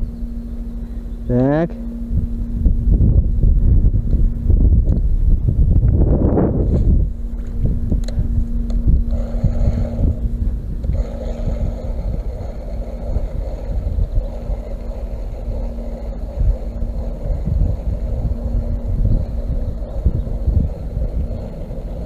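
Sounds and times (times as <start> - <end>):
faint steady hum: 0.0 - 22.0
wind buffeting microphone: 0.0 - 22.0.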